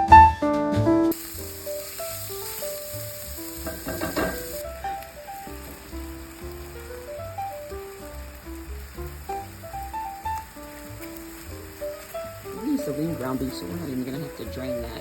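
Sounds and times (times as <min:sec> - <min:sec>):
piano background music: 0:00.0 - 0:15.0
ground beef sizzling in a pan: 0:01.1 - 0:15.0.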